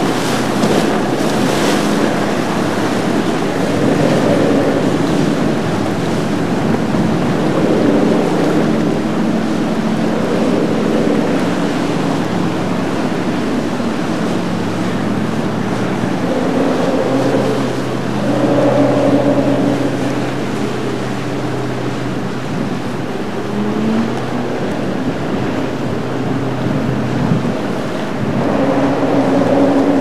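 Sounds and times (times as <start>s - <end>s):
outboard motor running: 0.0s - 28.4s
churning water: 0.0s - 30.0s.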